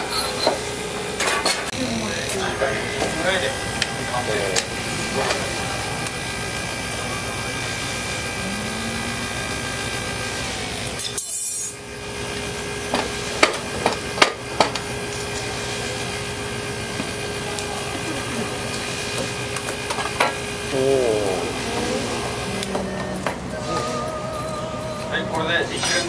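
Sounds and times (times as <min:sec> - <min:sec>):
hydraulic machine humming: 0:00.0 - 0:26.0.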